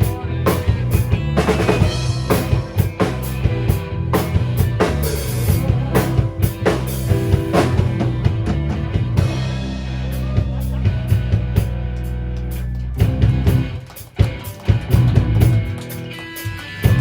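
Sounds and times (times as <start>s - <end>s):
sustained bass notes: 0.0s - 15.8s
drum kit kick and snare: 0.0s - 16.0s
rock band playing instrumental: 0.0s - 17.0s.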